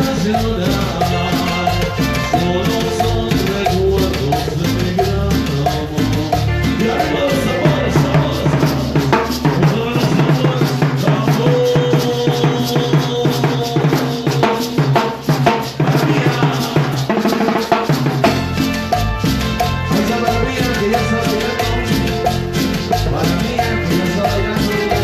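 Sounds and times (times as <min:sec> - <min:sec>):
drum kit strokes: 0:00.0 - 0:25.0
latin dance band music: 0:00.0 - 0:25.0.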